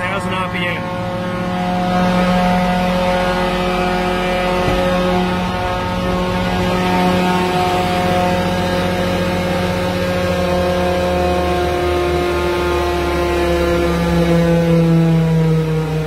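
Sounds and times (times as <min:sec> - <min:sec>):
diesel engine droning at high revs: 0:00.0 - 0:16.0.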